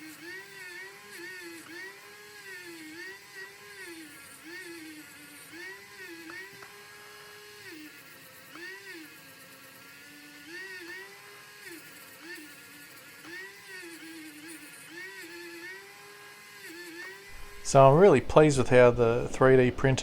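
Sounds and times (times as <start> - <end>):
small motor whining: 0.0 - 20.0.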